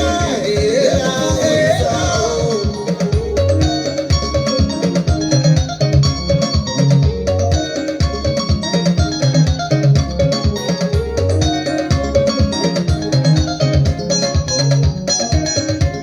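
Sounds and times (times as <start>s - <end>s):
upbeat instrumental guitar music: 0.0s - 16.0s.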